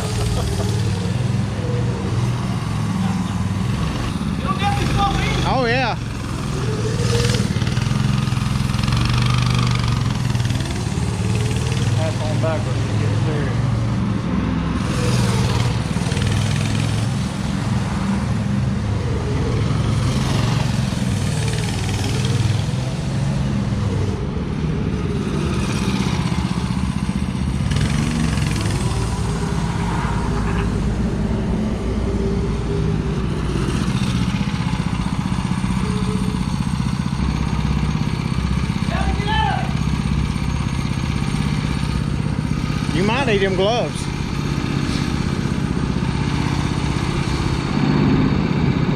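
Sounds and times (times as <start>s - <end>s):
go-kart engine revving: 0.0s - 48.9s.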